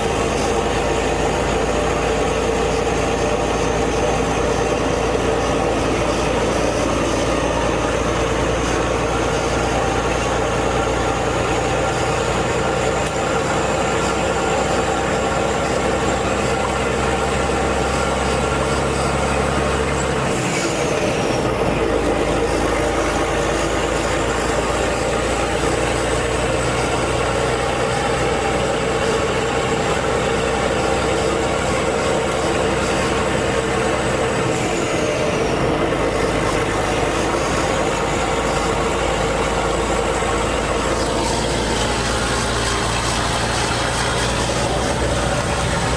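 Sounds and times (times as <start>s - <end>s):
diesel truck engine drone: 0.0s - 45.9s
high engine whine: 0.0s - 45.9s.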